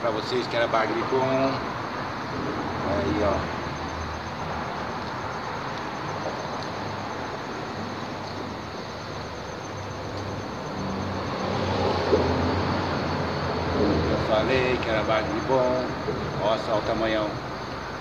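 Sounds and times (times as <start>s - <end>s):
traffic rumble on a bridge: 0.0s - 18.0s.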